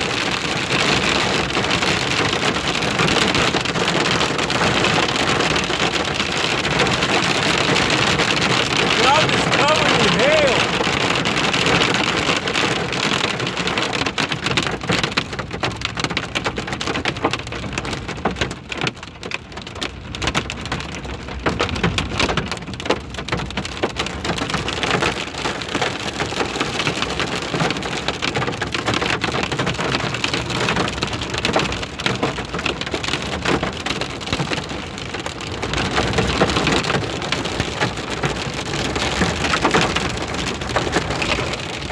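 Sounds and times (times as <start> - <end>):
hail and rain hitting a vehicle: 0.0 - 41.9.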